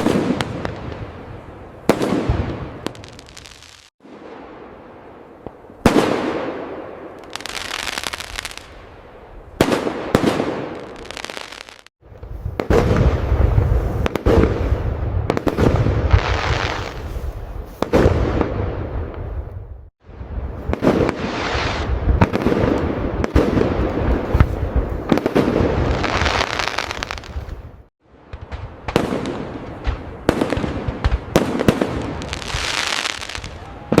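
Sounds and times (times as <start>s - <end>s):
fireworks bursting with crackle: 0.0s - 19.5s, 20.1s - 34.0s.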